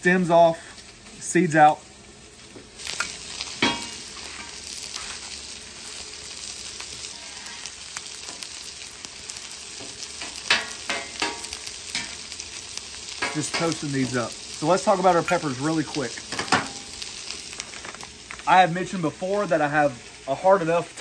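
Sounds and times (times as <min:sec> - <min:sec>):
chiles sizzling on a griddle: 0:00.0 - 0:21.0.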